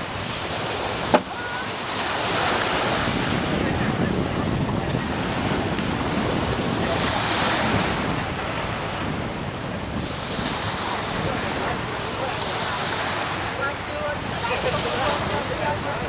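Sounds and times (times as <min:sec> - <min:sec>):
sea surf washing onto beach: 0:00.0 - 0:16.0
wind buffeting microphone: 0:00.0 - 0:16.0.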